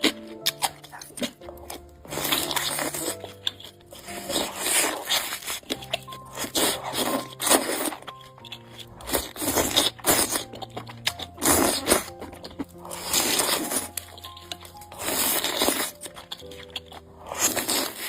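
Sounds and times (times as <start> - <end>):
background music with held notes: 0.0 - 18.0
eating bites and crunches: 0.0 - 18.0.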